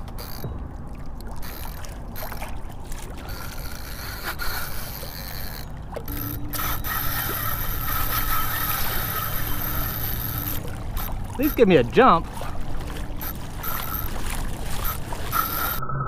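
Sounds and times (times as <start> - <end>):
fishing reel whirring: 0.0 - 0.5, 1.4 - 15.8
water wash: 0.0 - 15.8.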